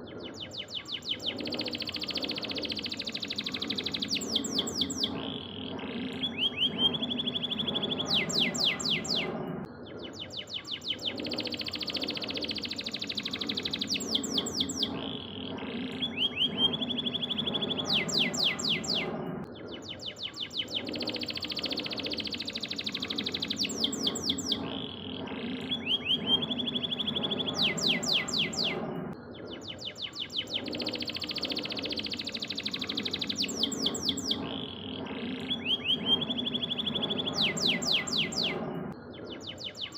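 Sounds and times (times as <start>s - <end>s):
canary singing trills: 0.0s - 39.9s
low background hum: 0.0s - 39.9s.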